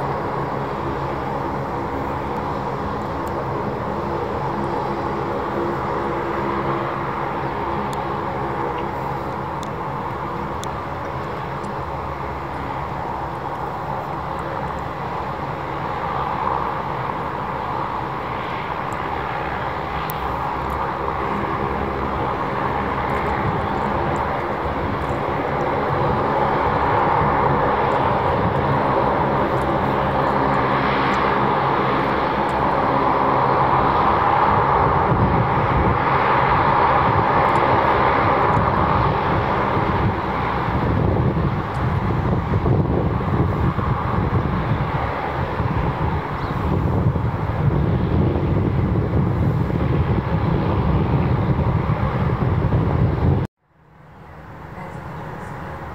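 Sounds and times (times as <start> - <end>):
jet engines running: 0.0 - 55.9.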